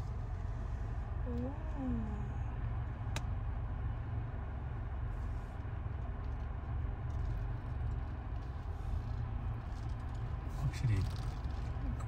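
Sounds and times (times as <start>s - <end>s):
car engine rumble in cabin: 0.0s - 12.0s.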